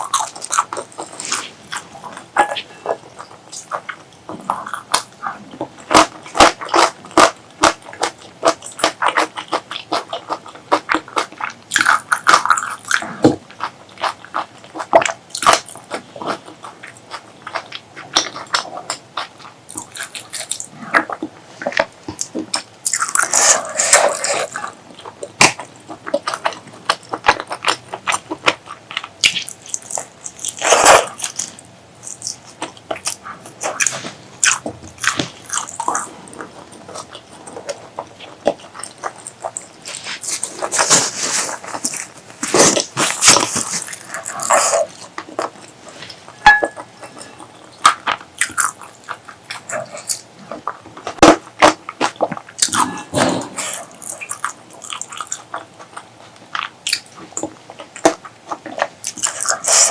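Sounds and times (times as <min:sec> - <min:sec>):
chewing and biting: 0:00.0 - 0:59.9.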